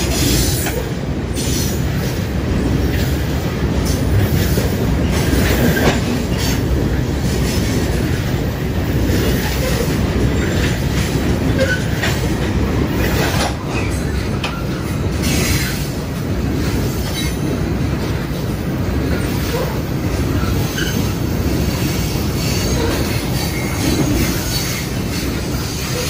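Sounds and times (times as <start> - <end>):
steel wheels rumbling on rail: 0.0 - 26.0
clacks over rail joints: 1.7 - 26.0.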